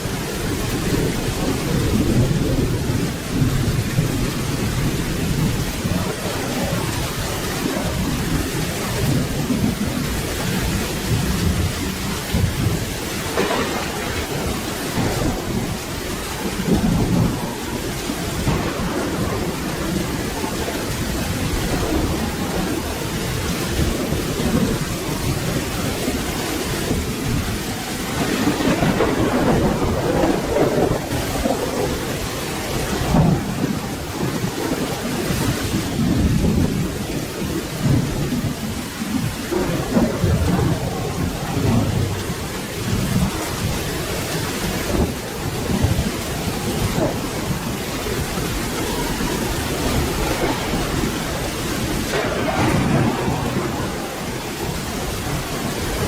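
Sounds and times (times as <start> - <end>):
steady rain: 0.0 - 56.0
thunder rumbling: 0.0 - 56.0.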